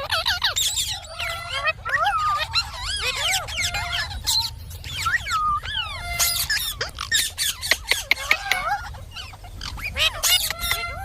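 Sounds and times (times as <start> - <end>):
parrot chattering and whistling: 0.0 - 11.0.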